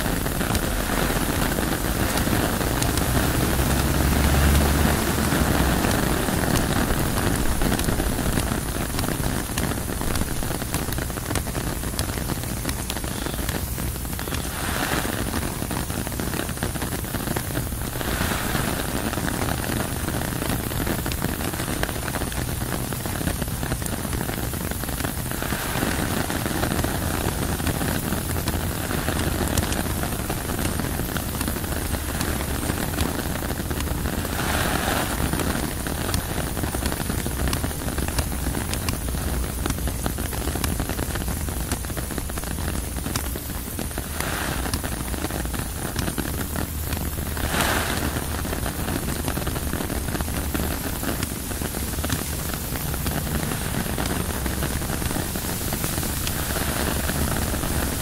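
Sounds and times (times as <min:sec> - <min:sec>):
rain on tent fabric: 0:00.0 - 0:58.0
wind gusts: 0:00.0 - 0:58.0.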